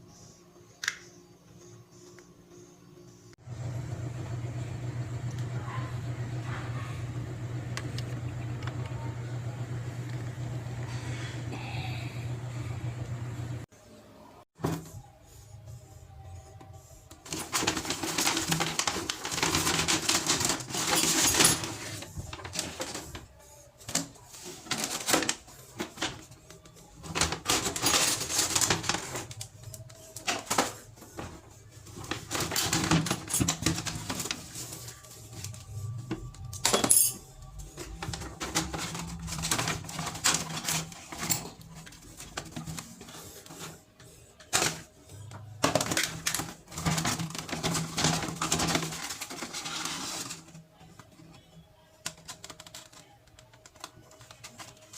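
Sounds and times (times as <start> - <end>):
music: 0.0 - 3.5, 13.7 - 54.9.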